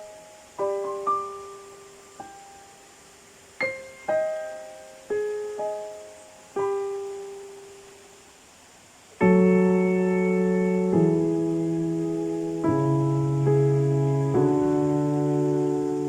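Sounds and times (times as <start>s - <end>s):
slow piano music: 0.0s - 8.2s, 9.1s - 16.0s.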